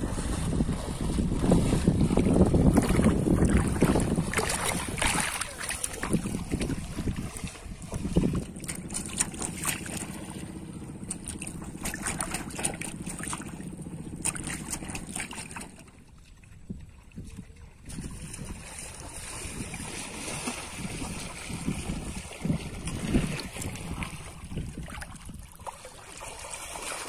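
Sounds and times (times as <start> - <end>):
wind on microphone: 0.0 - 25.6
water sloshing and splashing: 0.0 - 27.0.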